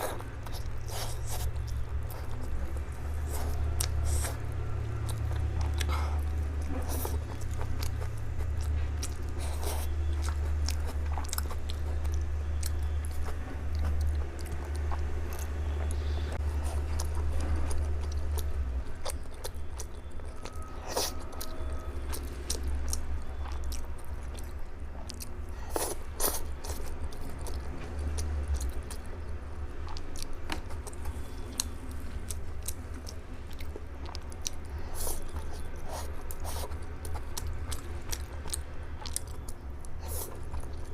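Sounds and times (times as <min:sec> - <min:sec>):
chewing noodles: 0:00.0 - 0:40.9
steady low hum: 0:00.0 - 0:40.9.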